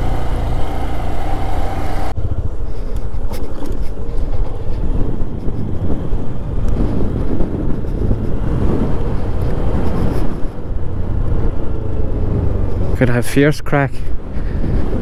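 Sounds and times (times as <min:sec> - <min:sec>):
motorcycle engine: 0:00.0 - 0:13.0
wind buffeting microphone: 0:00.0 - 0:15.0.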